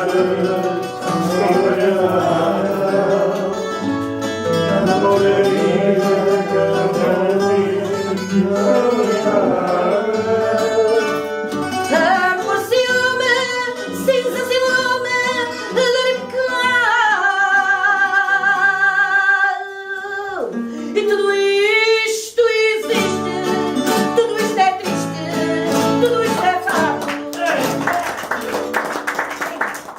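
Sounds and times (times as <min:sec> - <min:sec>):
plucked guitars: 0:00.0 - 0:19.4, 0:22.8 - 0:29.1
woman singing with vibrato: 0:00.0 - 0:27.1.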